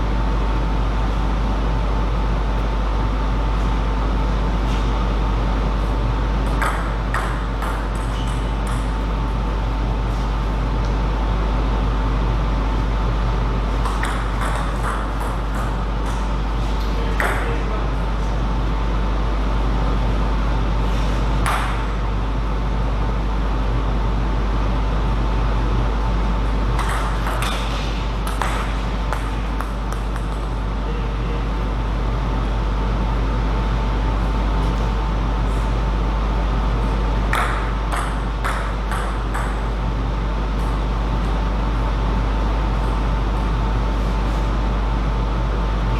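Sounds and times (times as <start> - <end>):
electrical hum: 0.0 - 45.9.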